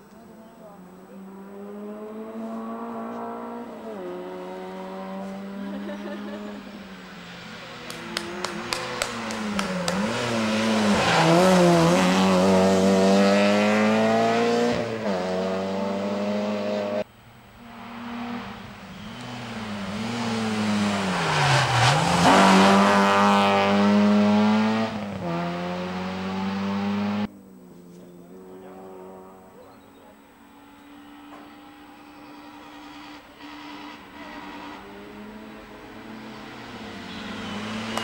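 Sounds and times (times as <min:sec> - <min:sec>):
rally car engines revving past: 0:00.7 - 0:38.0.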